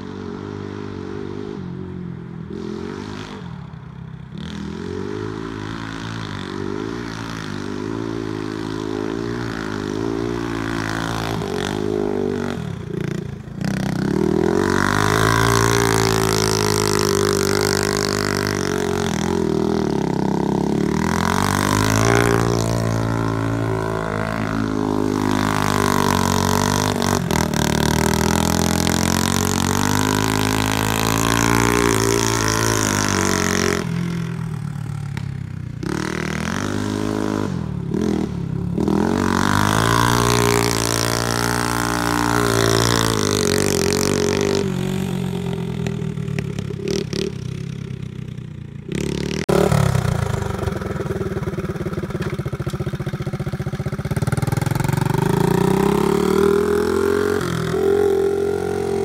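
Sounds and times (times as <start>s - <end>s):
trike engine revving: 0.0s - 59.0s.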